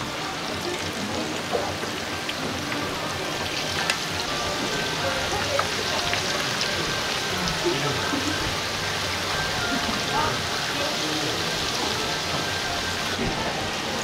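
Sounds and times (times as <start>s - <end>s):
hot oil crackling: 0.0s - 14.0s.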